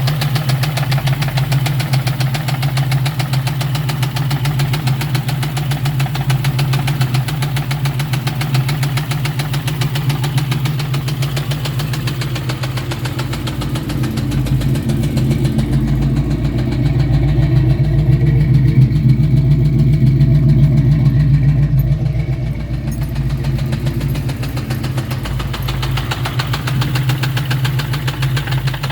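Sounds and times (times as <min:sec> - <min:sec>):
car engine with ticking knock: 0:00.0 - 0:28.9.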